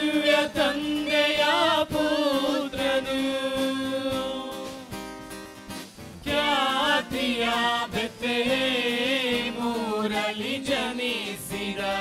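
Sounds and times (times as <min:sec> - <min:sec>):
group singing in unison: 0:00.0 - 0:05.0, 0:06.2 - 0:12.0
acoustic guitar: 0:00.0 - 0:12.0.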